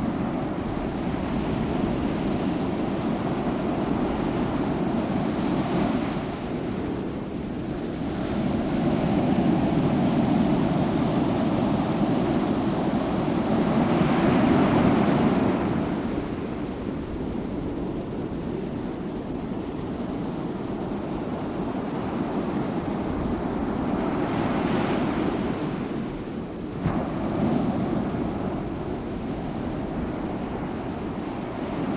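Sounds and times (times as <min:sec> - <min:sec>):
sea waves washing ashore: 0:00.0 - 0:31.9.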